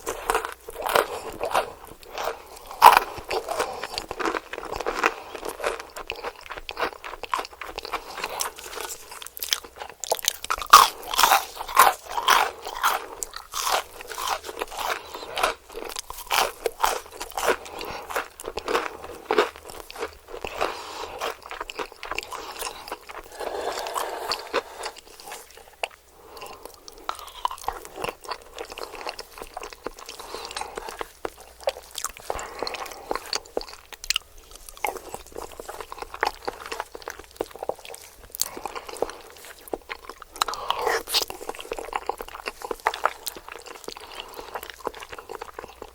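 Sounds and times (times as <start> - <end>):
crunchy biting and chewing: 0.0 - 45.9.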